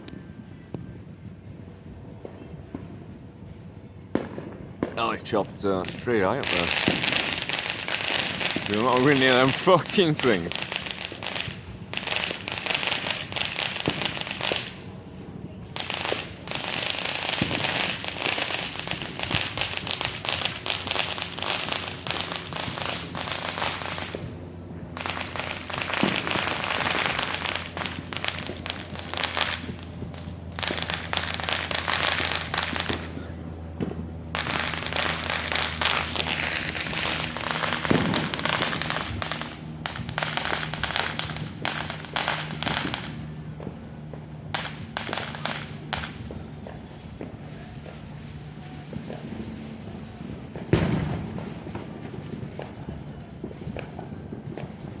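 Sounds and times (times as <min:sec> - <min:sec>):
firecrackers crackling and popping: 0:00.0 - 0:55.0.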